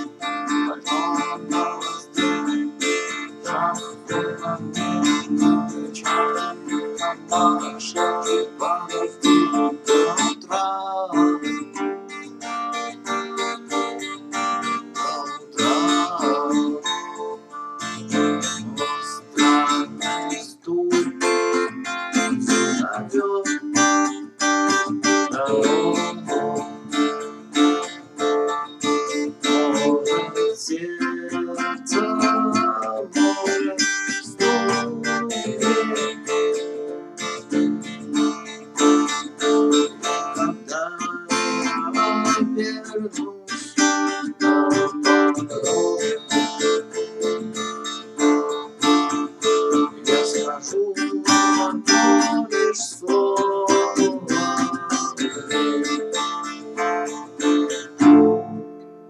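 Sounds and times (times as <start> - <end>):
acoustic guitar strumming chords: 0.0 - 59.0.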